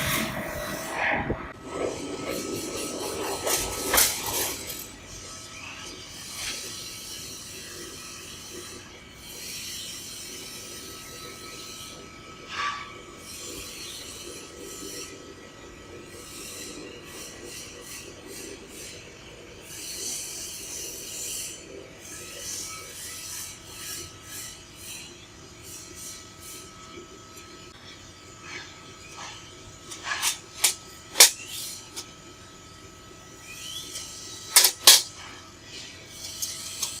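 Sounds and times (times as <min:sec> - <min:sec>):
laser cutter hiss: 0:00.0 - 0:27.1, 0:27.9 - 0:37.0.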